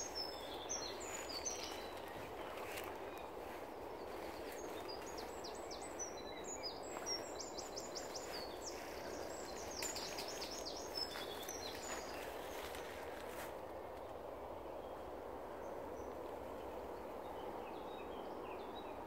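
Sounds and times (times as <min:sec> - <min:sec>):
songbirds singing: 0:00.0 - 0:19.0
steady background noise: 0:00.0 - 0:19.0.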